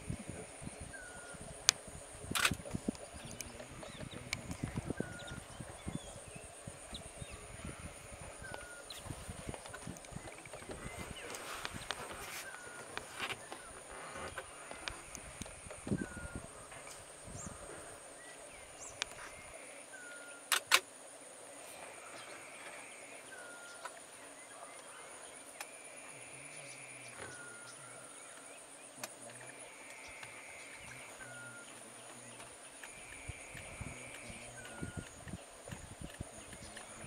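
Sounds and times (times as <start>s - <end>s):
high insect drone: 0.0s - 37.0s.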